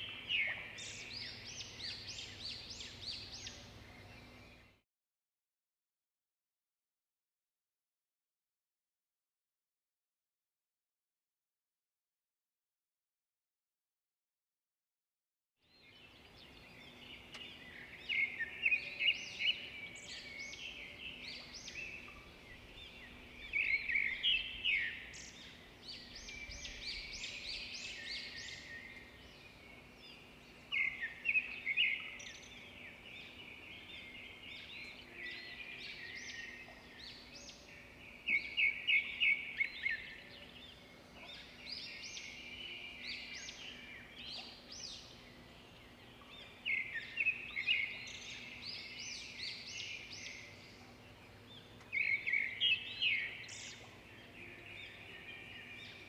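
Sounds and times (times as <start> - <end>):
small birds chirping: 0.0 - 4.8, 15.7 - 56.0.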